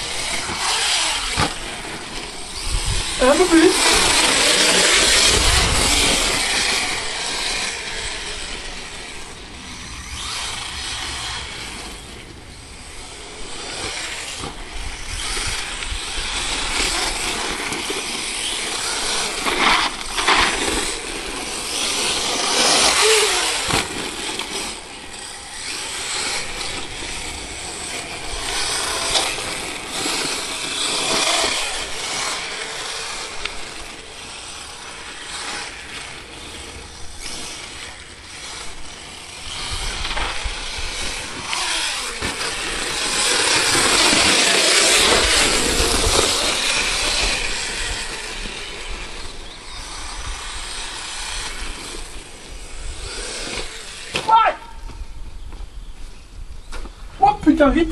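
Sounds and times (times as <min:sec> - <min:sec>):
rc truck motor buzzing: 0:00.0 - 0:57.1.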